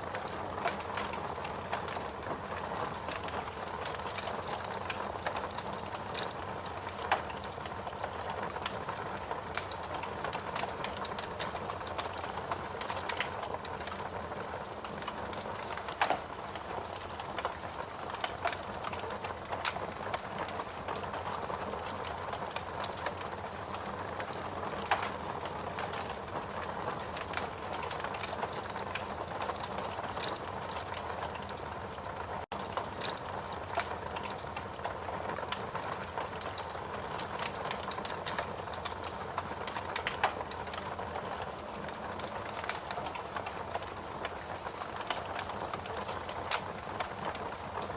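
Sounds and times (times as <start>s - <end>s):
log fire crackling: 0.0s - 47.9s.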